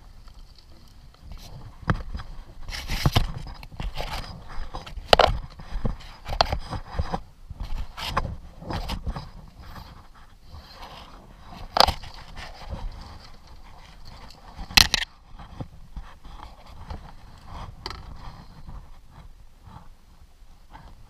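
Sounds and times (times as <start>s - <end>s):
scraping and rustling of gear: 0.0s - 19.9s.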